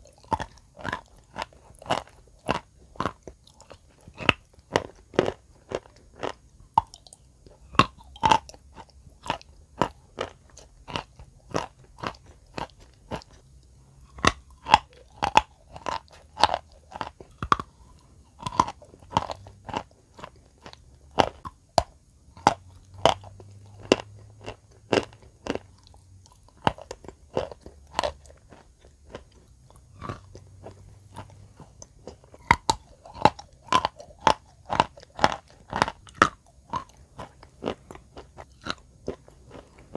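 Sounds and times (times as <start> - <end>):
chewing crunchy chalk: 0.0 - 39.9.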